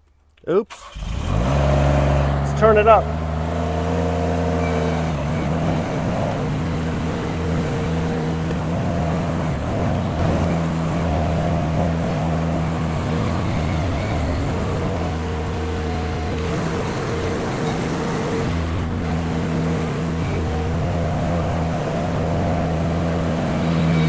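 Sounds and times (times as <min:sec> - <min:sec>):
skid steer engine running: 0:00.9 - 0:24.0.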